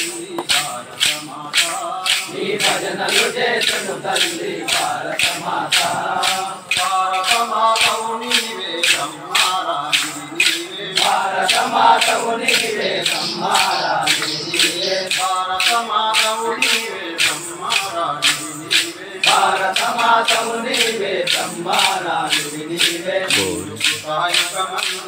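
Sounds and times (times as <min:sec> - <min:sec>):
men singing a prayer together: 0:00.0 - 0:25.0
wooden clappers clacking: 0:00.0 - 0:25.0.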